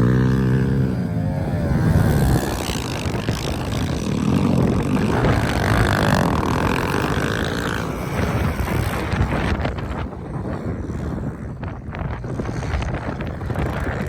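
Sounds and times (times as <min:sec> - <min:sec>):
pit bike engines revving: 0:00.0 - 0:14.0.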